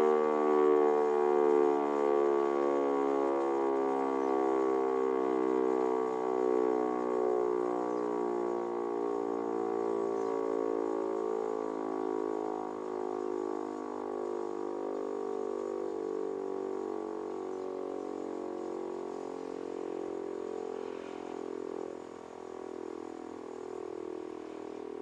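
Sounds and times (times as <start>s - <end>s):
civil defence siren wavering tone: 0.0s - 25.0s.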